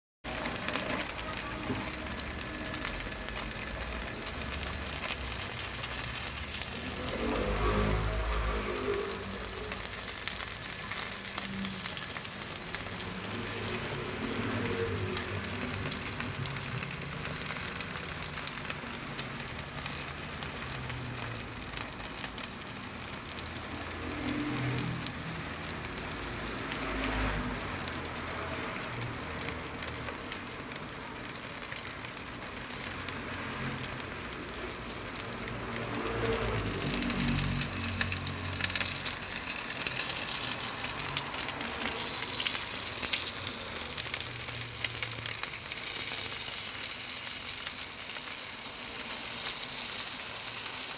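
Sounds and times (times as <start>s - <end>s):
dumplings sizzling in oil: 0.2s - 50.9s.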